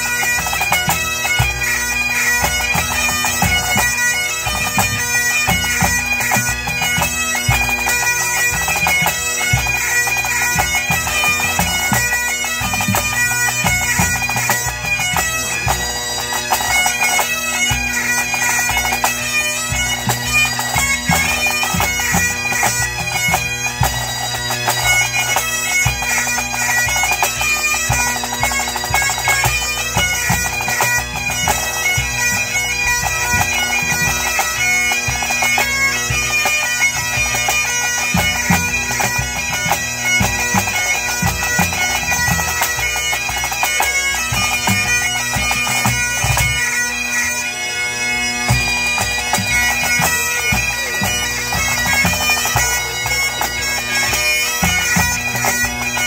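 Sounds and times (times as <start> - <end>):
bagpipes with drones: 0.0 - 56.0.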